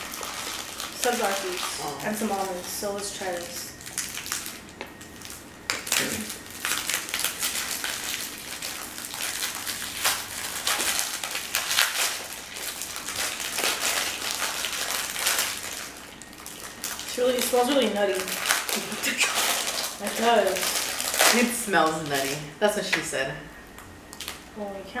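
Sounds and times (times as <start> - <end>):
plastic wrapper crinkling: 0.0 - 22.6, 23.7 - 24.5.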